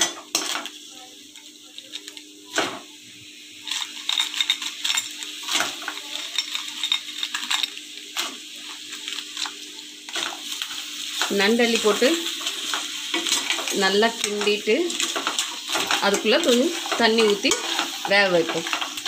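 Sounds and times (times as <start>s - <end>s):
food sizzling in pan: 0.0s - 19.0s.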